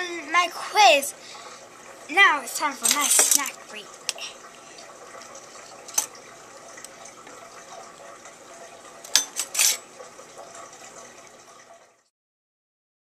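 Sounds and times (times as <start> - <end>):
running water: 0.0 - 12.1.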